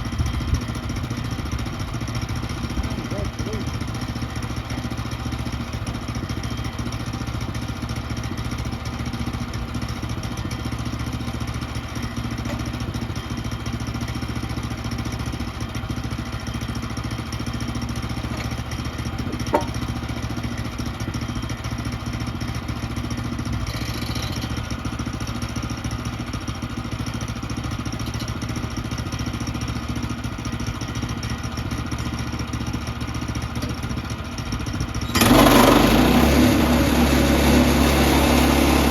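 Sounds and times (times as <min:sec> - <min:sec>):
small gas engine running: 0:00.0 - 0:38.9.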